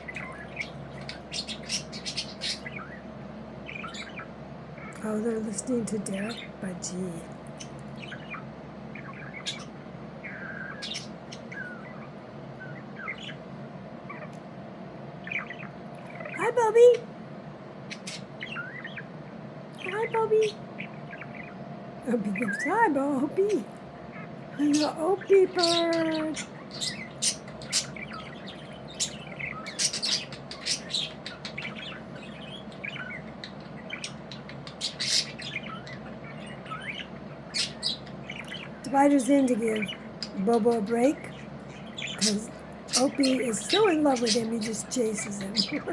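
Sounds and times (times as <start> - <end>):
budgerigars squawking: 0.0 - 13.4, 15.2 - 17.0, 17.9 - 19.1, 19.8 - 45.9
budgerigars chirping: 0.0 - 13.5, 14.1 - 14.4, 15.2 - 17.0, 17.8 - 19.1, 19.8 - 45.9
air purifiers humming: 0.0 - 45.9.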